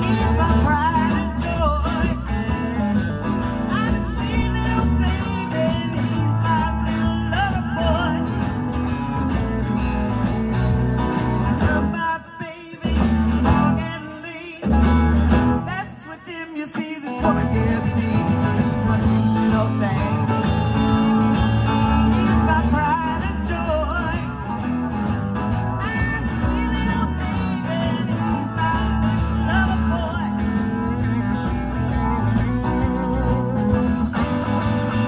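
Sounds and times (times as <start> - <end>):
bass: 0.0 - 16.3, 17.1 - 35.0
drums: 0.0 - 35.0
electric guitars: 0.0 - 35.0.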